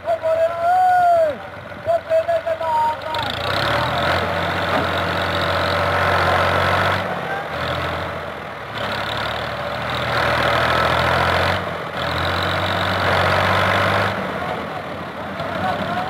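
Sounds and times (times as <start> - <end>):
tractor diesel engine labouring: 0.0 - 16.0.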